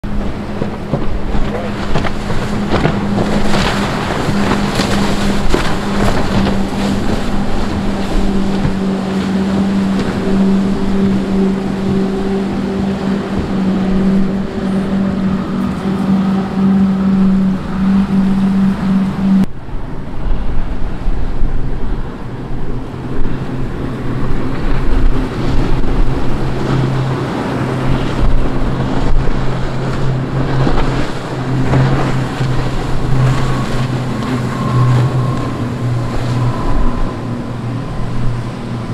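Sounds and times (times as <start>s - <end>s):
outboard motors humming: 0.0s - 38.9s
rushing water and wake spray: 0.0s - 38.9s.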